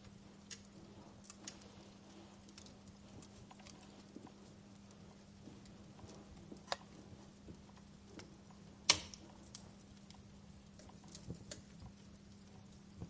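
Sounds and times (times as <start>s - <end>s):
faint low hum: 0.0s - 13.0s
wood fire crackling: 0.0s - 13.0s.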